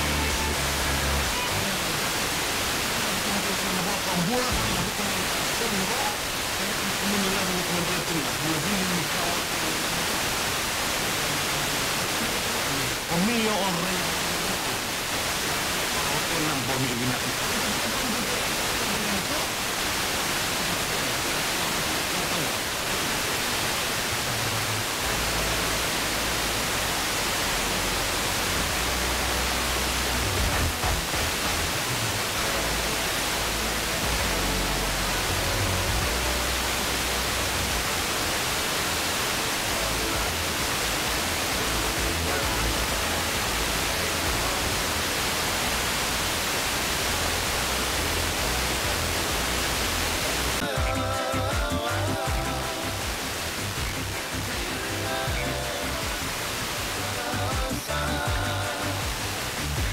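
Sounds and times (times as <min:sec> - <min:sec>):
faint music with low bass: 0:00.0 - 0:14.6, 0:22.2 - 0:59.9
radio static hiss: 0:00.0 - 0:59.9.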